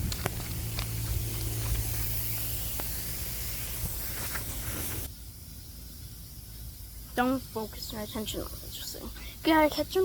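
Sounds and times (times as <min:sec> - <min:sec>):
sprinkler spray hissing: 0:00.0 - 0:10.0.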